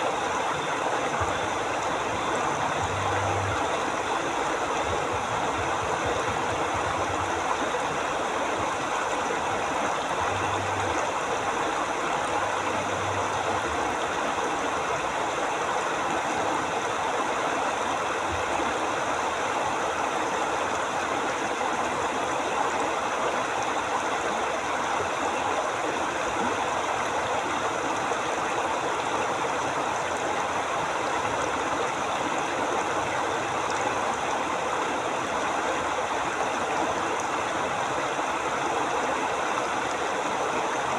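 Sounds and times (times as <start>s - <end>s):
river rushing and gurgling: 0.0s - 40.9s.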